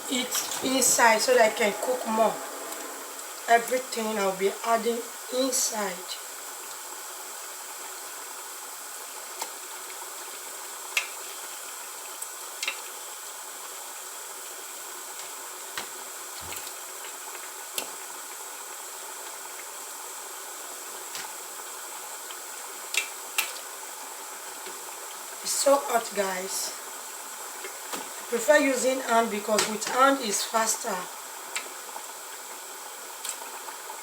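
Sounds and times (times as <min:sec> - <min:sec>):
stew hissing in a pot: 0:00.0 - 0:29.6.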